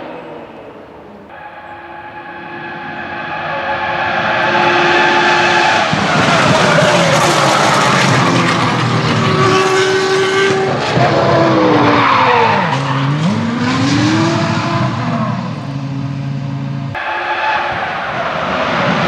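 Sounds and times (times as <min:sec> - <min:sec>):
racing car engine running hard: 0:00.0 - 0:19.0.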